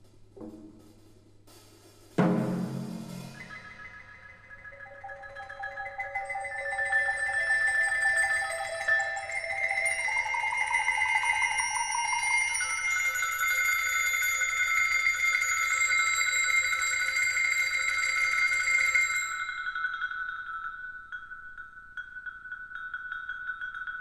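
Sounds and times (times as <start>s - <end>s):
small bells ringing: 4.6s - 24.0s.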